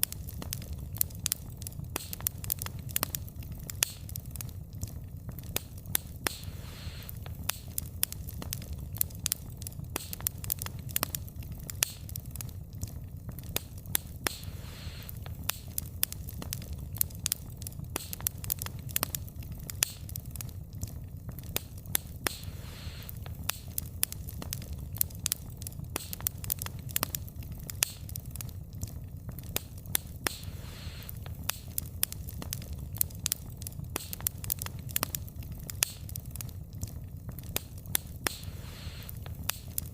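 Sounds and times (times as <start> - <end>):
logs crackling and popping: 0.0 - 39.9
low rumble of flames: 0.0 - 39.9
soft hiss: 0.0 - 39.9.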